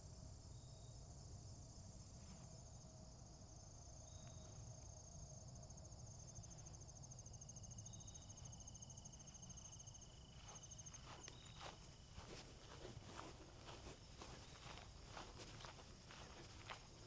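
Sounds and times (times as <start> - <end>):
insects trilling: 0.1 - 17.0.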